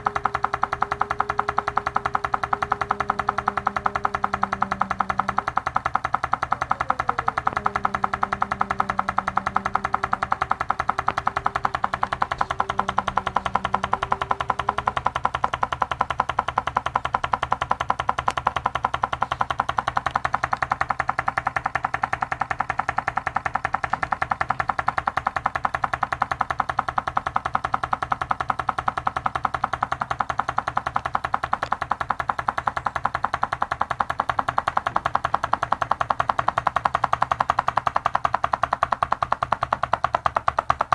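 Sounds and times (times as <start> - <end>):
stirling engine ticking rattle: 0.0 - 40.9.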